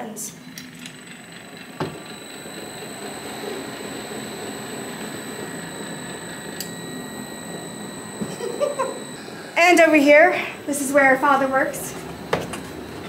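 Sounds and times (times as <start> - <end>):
blower fan running: 0.0 - 13.0.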